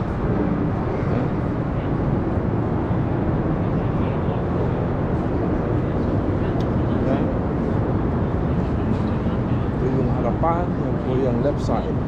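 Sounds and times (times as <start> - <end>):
low rumble of ambient noise: 0.0 - 12.0.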